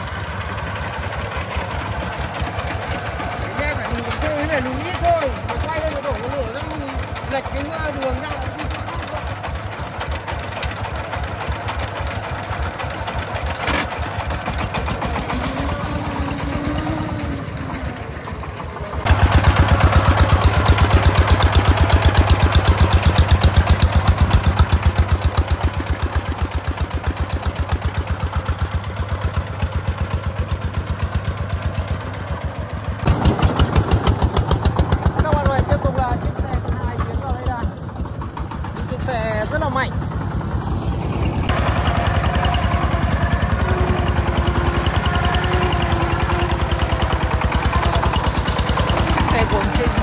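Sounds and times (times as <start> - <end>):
diesel engine chugging: 0.0 - 50.0.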